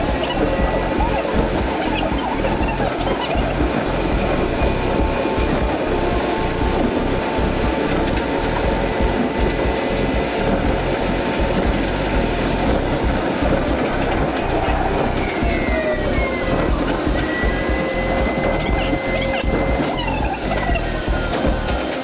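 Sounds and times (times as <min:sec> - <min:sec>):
whine dropping in pitch: 0:00.0 - 0:21.7
faint motor tones: 0:00.0 - 0:22.0
people mover running on guideway: 0:00.0 - 0:22.0.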